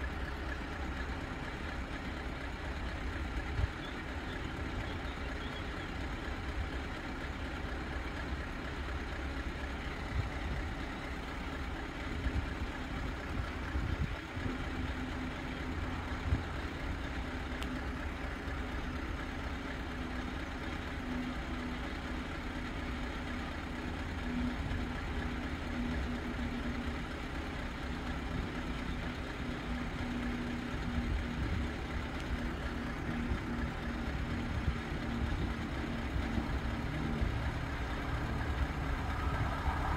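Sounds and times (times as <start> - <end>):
vehicle engines idling: 0.0 - 39.9.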